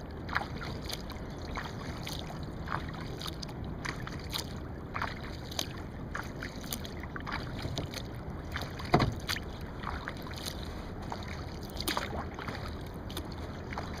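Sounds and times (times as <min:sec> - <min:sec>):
paddle splashing in water: 0:00.0 - 0:14.0
steady low rumble: 0:00.0 - 0:14.0.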